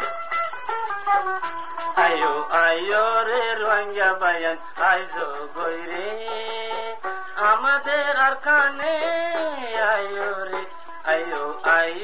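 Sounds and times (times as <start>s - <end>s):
instrumental backing music: 0.0s - 12.0s
man singing long notes: 2.0s - 12.0s.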